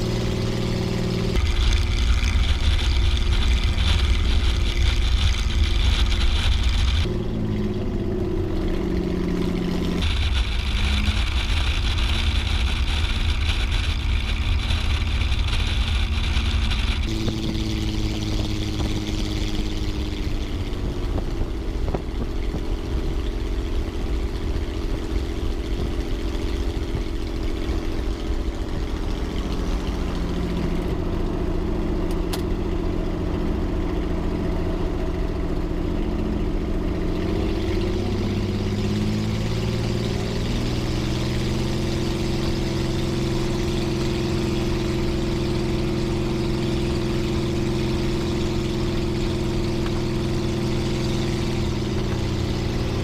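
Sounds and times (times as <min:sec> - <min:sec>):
aircraft engine running: 0:00.0 - 0:53.0.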